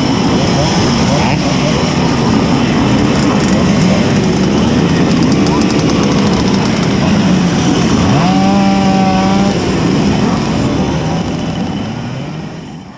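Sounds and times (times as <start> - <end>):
two-stroke engine revving: 0.0 - 12.9.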